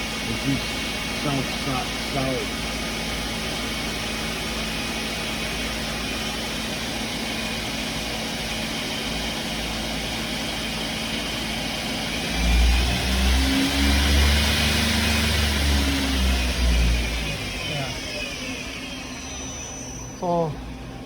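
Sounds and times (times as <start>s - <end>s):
lathe machine hum: 0.0s - 21.0s.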